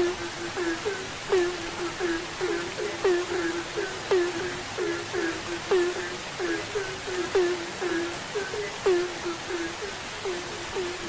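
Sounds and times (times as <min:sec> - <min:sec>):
frogs croaking in chorus: 0:00.0 - 0:11.0
rain hiss: 0:00.0 - 0:11.0.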